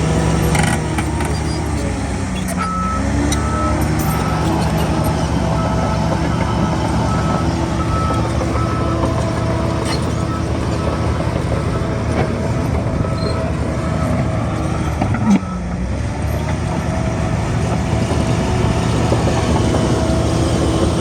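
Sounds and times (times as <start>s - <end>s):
diesel engine rumbling under load: 0.0s - 21.0s.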